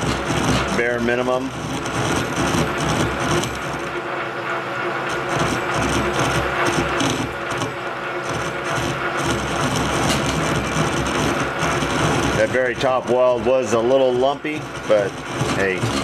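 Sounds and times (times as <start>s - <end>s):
lathe cutting metal: 0.0s - 16.0s.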